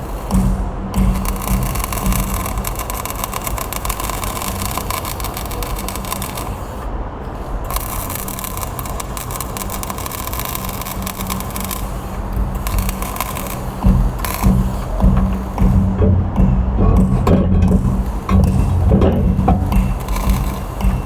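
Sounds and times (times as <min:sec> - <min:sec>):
arc welding crackle: 0:00.0 - 0:21.0
steady machine hum: 0:00.0 - 0:21.0.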